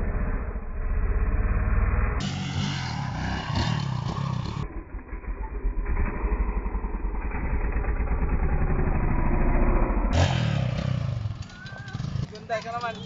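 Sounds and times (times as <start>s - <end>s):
dirt bike engine revving: 2.2s - 13.0s.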